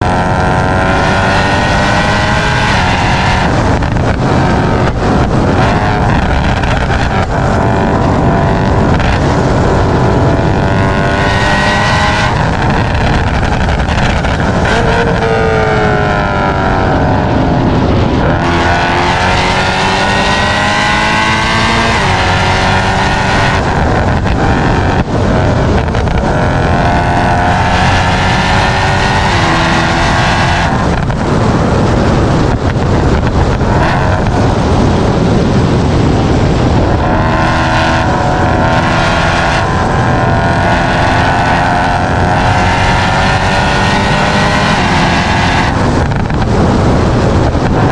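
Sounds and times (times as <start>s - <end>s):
loud car exhaust accelerating: 0.0s - 47.9s.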